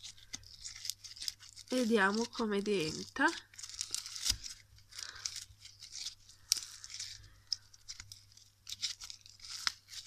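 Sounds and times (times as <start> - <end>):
crunchy slime being squeezed: 0.0 - 10.0.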